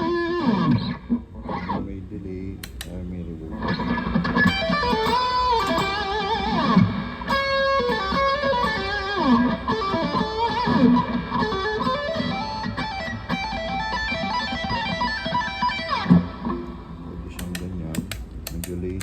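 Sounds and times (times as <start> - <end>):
electric guitar with delay and reverb: 0.0 - 1.9, 3.5 - 18.0.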